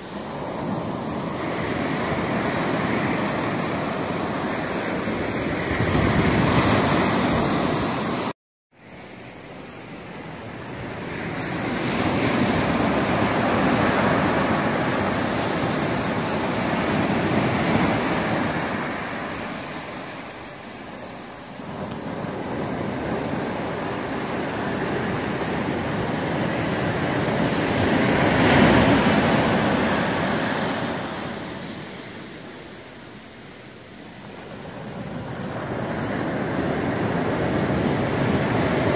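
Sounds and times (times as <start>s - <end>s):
surf breaking on beach: 0.0s - 8.3s, 10.7s - 32.7s, 34.1s - 38.9s.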